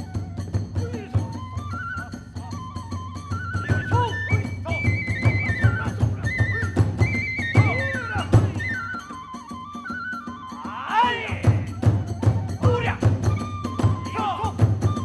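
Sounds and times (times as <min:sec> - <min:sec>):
fast drum beats: 0:00.0 - 0:08.9, 0:10.6 - 0:15.0
bamboo flute melody: 0:00.0 - 0:15.0.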